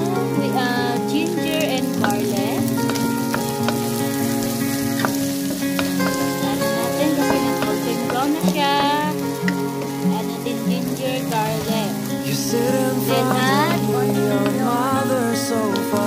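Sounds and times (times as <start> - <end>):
pop song with singing: 0.0 - 3.1, 6.0 - 16.0
meat sizzling in a pan: 0.0 - 16.0.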